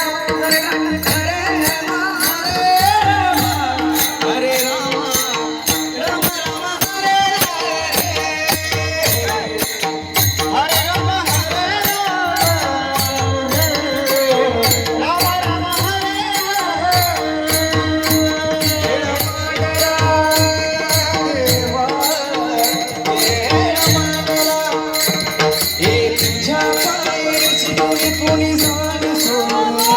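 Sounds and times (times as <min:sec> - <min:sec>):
percussion steady beat: 0:00.0 - 0:29.9
person singing devotional song: 0:00.0 - 0:29.9.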